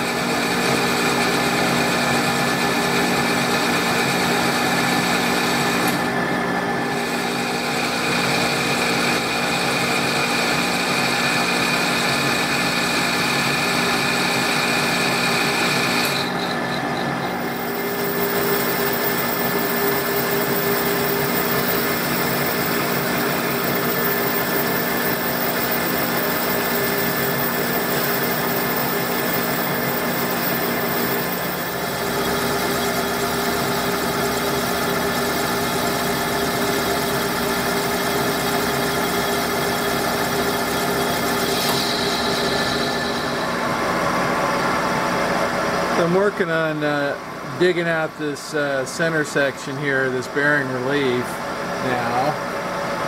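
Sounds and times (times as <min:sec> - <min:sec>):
lathe machine hum: 0:00.0 - 0:48.2.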